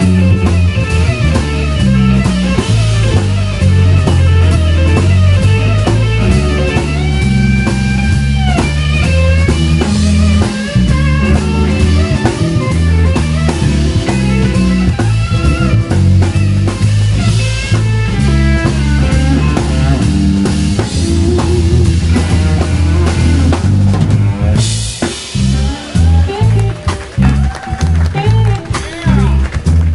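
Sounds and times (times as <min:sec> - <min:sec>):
drum kit: 0:00.0 - 0:29.9
electric bass: 0:00.0 - 0:29.9
electric guitar melody: 0:00.0 - 0:29.9.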